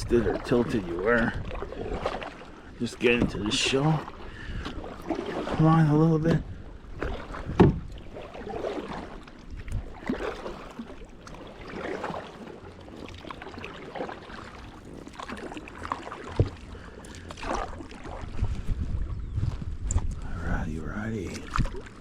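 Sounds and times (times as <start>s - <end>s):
water splashing against hull: 0.0s - 22.0s.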